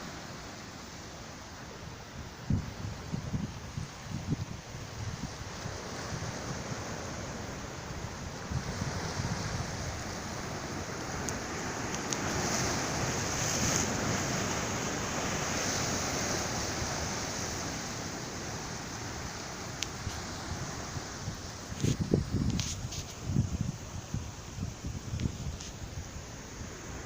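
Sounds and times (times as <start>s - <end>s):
sea waves washing ashore: 0.0s - 27.0s
wind buffeting microphone: 2.2s - 18.0s, 19.8s - 26.2s.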